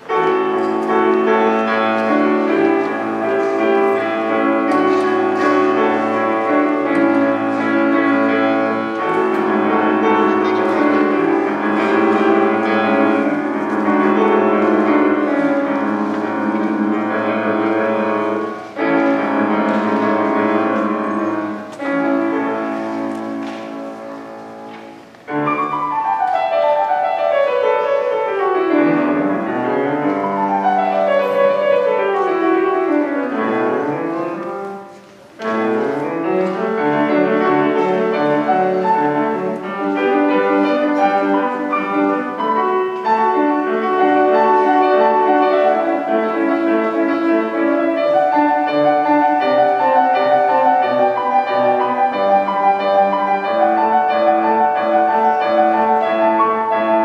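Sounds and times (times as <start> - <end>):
solo grand piano: 0.0 - 57.0.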